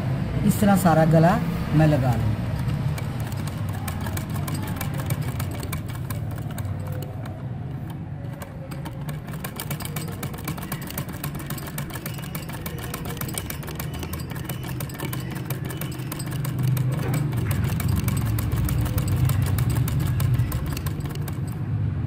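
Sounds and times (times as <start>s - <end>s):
sewing machine running: 2.1s - 21.6s.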